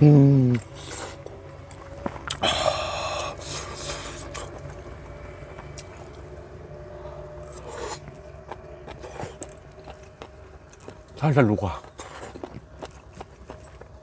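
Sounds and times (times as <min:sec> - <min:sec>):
person chewing: 0:00.5 - 0:11.2, 0:11.8 - 0:14.0.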